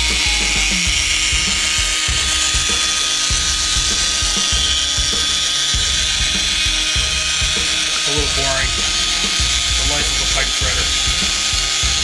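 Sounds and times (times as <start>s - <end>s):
pipe threader motor whine: 0.0s - 12.0s.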